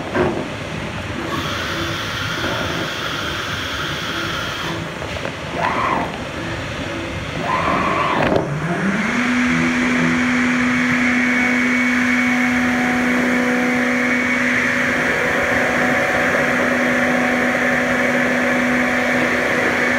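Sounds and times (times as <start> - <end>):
axis drive whining: 0.0 - 19.9
spindle whining: 1.1 - 19.9.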